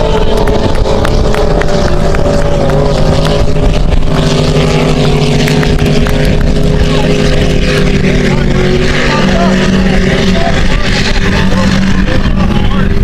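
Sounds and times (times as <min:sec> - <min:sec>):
powerboat engines droning: 0:00.0 - 0:13.0.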